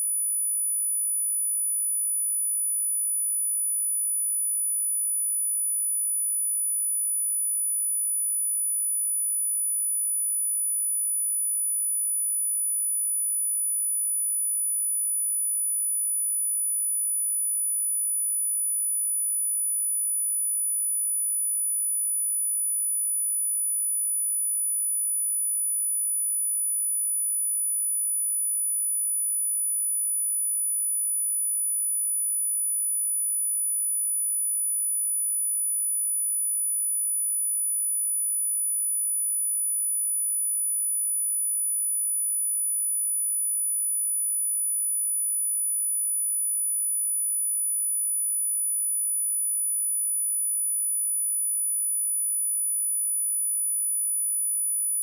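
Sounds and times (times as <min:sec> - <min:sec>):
high-pitched sine wave test tone: 0:00.0 - 0:55.0.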